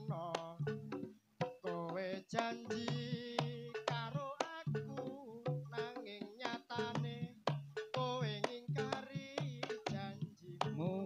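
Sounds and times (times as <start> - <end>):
drum and metal percussion strikes: 0.0 - 11.0.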